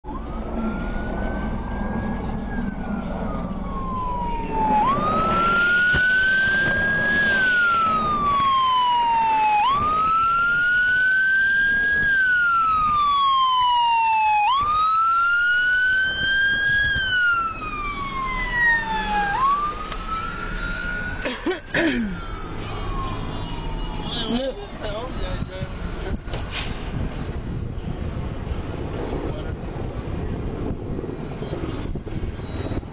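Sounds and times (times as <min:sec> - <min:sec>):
emergency siren wailing: 0:00.0 - 0:26.2, 0:27.0 - 0:32.9.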